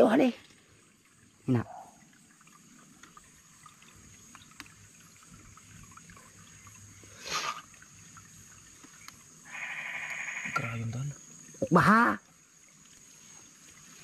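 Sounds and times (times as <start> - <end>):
stream water trickling: 0.0 - 14.0.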